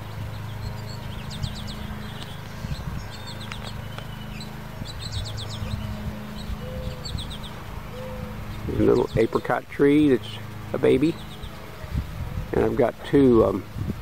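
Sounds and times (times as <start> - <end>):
songbird chirping: 0.0 - 12.7
low rumble: 0.0 - 14.0.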